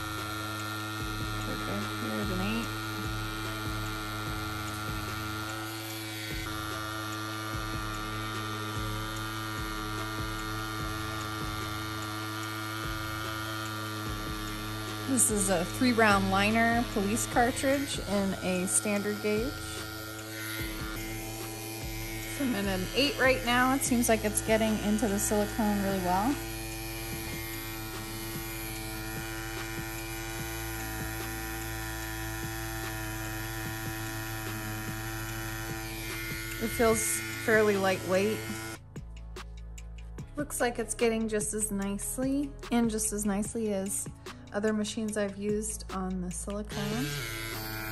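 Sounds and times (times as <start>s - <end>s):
tattoo machine electric hum: 0.0s - 43.5s, 46.7s - 47.9s.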